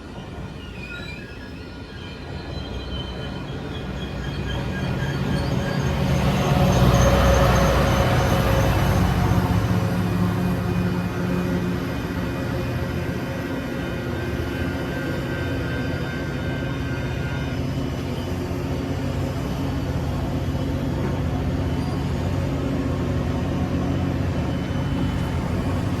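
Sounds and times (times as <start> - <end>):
train diesel engine running: 3.1 - 26.0.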